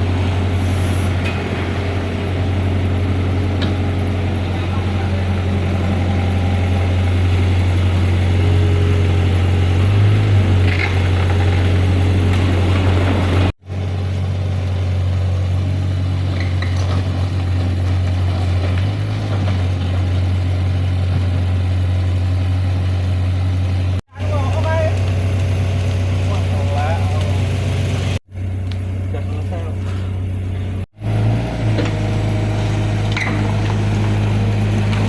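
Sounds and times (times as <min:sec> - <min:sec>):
diesel engine droning: 0:00.0 - 0:35.0.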